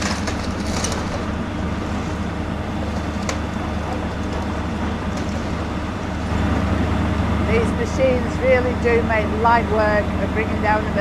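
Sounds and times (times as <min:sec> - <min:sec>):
excavator diesel engines droning: 0:00.0 - 0:11.0.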